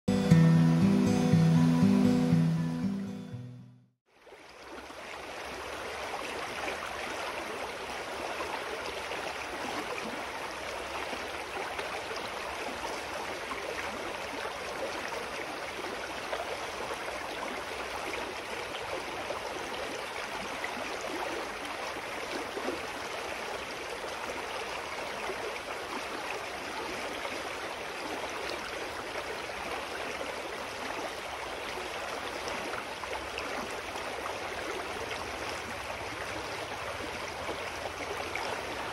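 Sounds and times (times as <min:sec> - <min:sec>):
stream running over rocks: 0:04.1 - 0:38.9.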